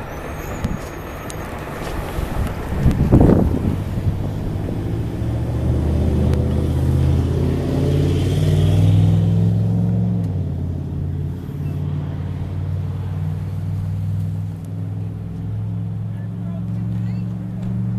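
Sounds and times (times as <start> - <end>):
large engine droning: 0.0 - 17.9.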